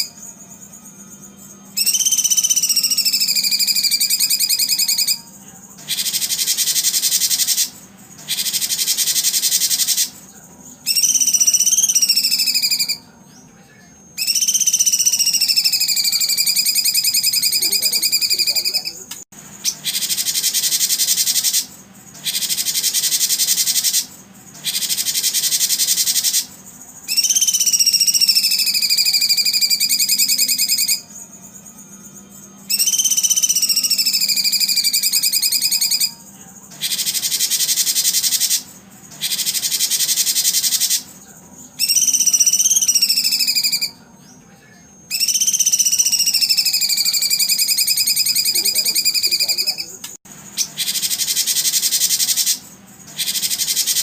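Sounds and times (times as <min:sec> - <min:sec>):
whistled bird calls: 0:00.0 - 0:00.4, 0:01.7 - 0:13.5, 0:14.2 - 0:19.0, 0:19.6 - 0:44.4, 0:45.0 - 0:54.0
rapid high buzzing: 0:00.0 - 0:44.1, 0:44.9 - 0:54.0.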